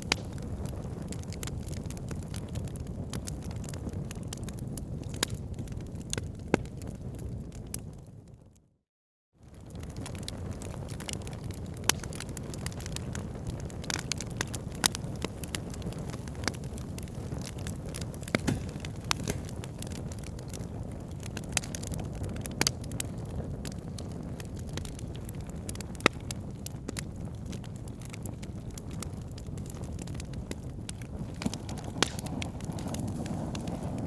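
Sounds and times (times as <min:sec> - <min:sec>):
wood fire crackling and popping: 0:00.0 - 0:08.1, 0:09.5 - 0:34.0.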